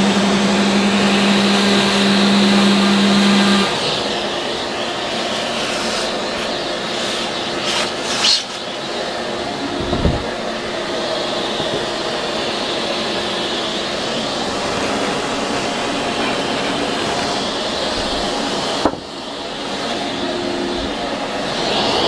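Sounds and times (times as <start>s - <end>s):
shop vacuum running: 0.0s - 22.0s.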